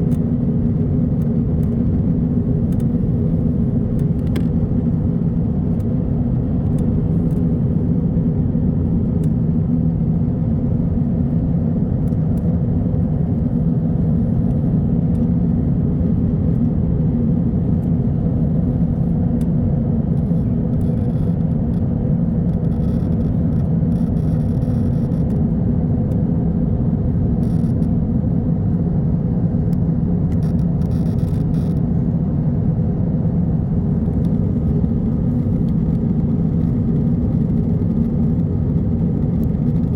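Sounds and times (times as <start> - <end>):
airliner cabin engine rumble: 0.0 - 39.9
low hum: 0.0 - 39.9.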